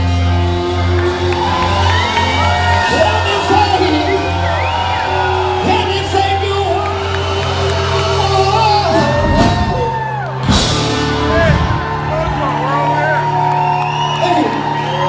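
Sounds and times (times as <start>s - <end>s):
live rock band with singer: 0.0s - 12.4s
crowd whooping and shouting: 0.3s - 15.0s.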